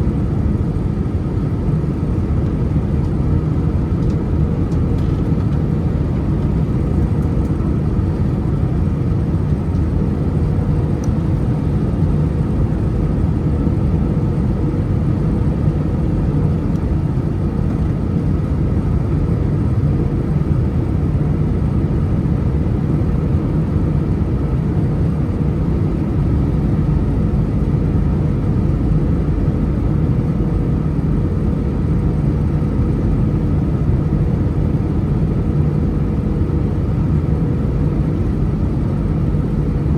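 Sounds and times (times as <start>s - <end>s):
jet engine hum in cabin: 0.0s - 39.9s.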